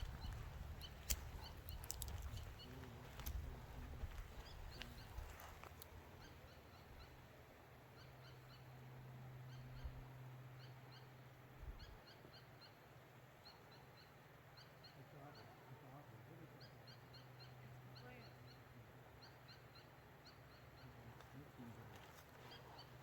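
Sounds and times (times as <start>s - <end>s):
small birds chirping: 0.0s - 7.3s, 7.9s - 23.0s
low steady hum: 0.0s - 23.0s.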